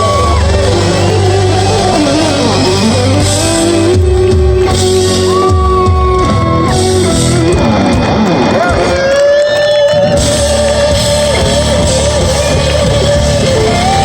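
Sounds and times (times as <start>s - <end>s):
electric guitar: 0.0s - 14.0s
rock band playing: 0.0s - 14.0s.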